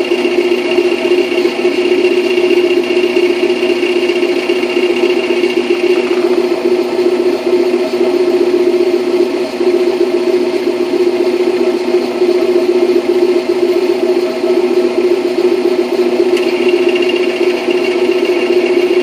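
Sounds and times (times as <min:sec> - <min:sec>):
high-pitched transmission whine: 0:00.0 - 0:19.0.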